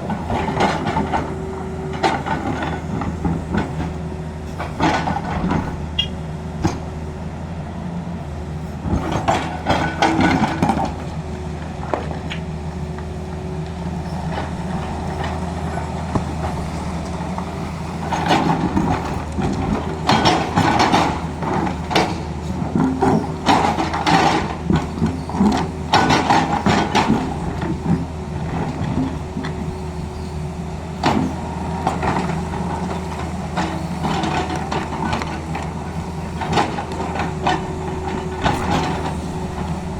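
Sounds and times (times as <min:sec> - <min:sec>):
clattering and scraping on ground: 0:00.0 - 0:07.1, 0:08.7 - 0:39.9
excavator diesel engine running: 0:00.0 - 0:39.9.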